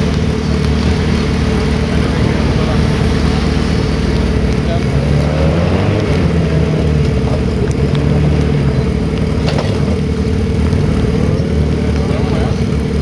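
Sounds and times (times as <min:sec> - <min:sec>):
buggy engine under load: 0:00.0 - 0:13.0.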